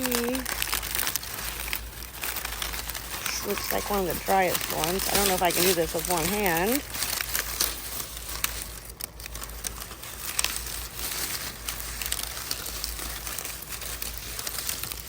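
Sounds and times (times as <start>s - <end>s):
dry corn husks crinkling: 0.0s - 15.0s.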